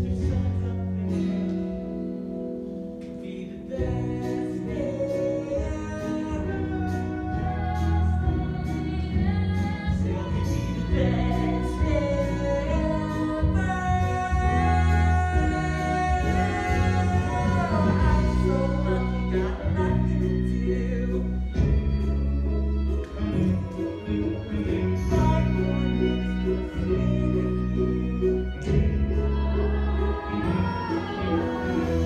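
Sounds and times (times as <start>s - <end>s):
instrumental accompaniment with bass: 0.0s - 32.0s
voices singing: 3.2s - 21.9s, 23.1s - 32.0s.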